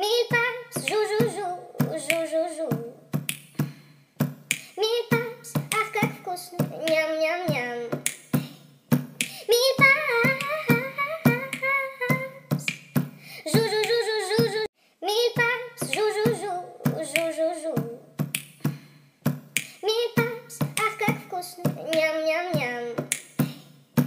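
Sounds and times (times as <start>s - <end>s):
sharp clicking beat: 0.8s - 7.0s, 8.0s - 14.6s, 15.8s - 22.1s, 23.0s - 24.0s.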